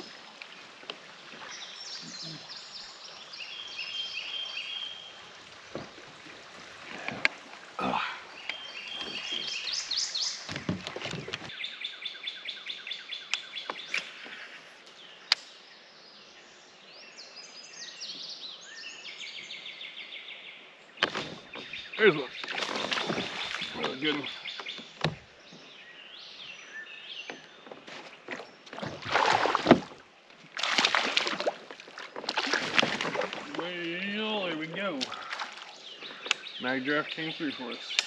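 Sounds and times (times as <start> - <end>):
songbirds chirping and trilling: 0.0 - 30.5, 31.7 - 38.0.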